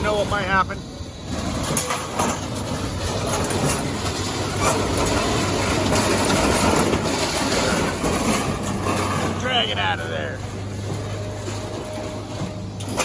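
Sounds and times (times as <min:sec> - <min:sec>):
material handler engine running: 0:00.0 - 0:13.0
scrap metal clanking and scraping: 0:01.2 - 0:13.0.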